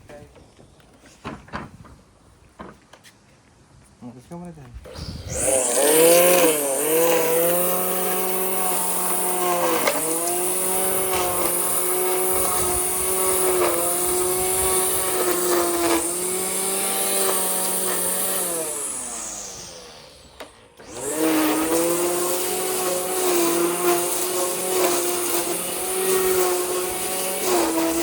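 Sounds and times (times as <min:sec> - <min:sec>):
petrol lawn mower engine: 0:04.9 - 0:28.0.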